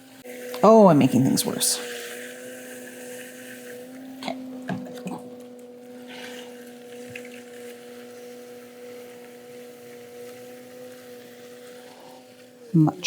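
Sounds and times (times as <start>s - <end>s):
potter's wheel motor humming: 0.0s - 13.0s.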